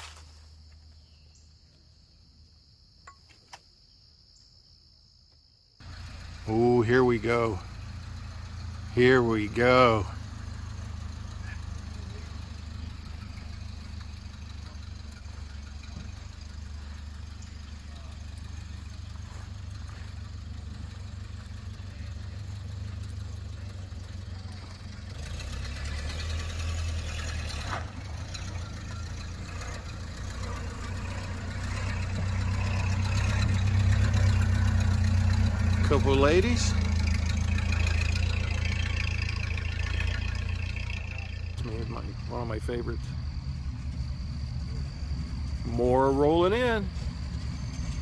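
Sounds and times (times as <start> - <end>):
car engine rumbling: 5.8 - 48.0.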